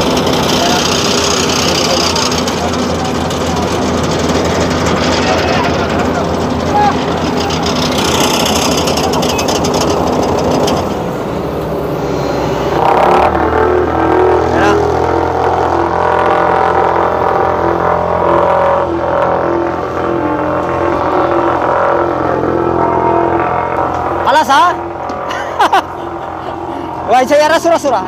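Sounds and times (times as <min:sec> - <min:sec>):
diesel engine drone with pulsing beat: 0:00.0 - 0:28.0
road roller rattling: 0:00.0 - 0:28.0.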